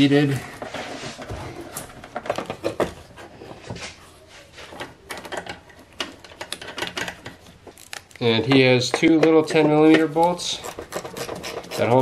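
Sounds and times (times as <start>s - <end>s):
plastic parts clicking and knocking: 0.6s - 3.6s, 4.7s - 12.0s.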